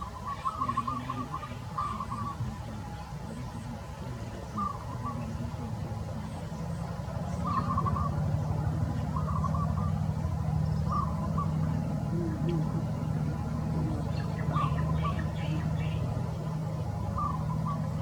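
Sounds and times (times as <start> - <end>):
bird calling: 0.0 - 18.0
low engine-like hum: 0.0 - 18.0.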